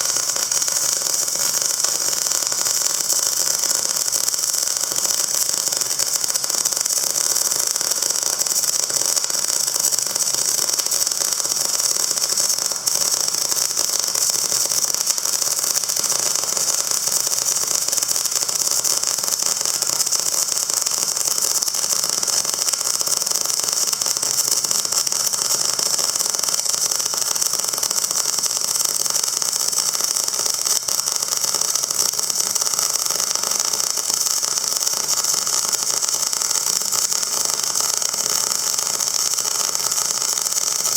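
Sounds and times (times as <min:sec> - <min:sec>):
machine running with high hiss: 0:00.0 - 0:40.9.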